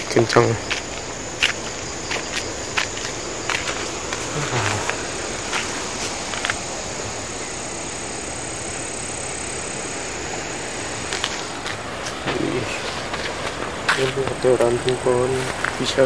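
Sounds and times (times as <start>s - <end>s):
strong wind through trees: 0.0s - 16.0s.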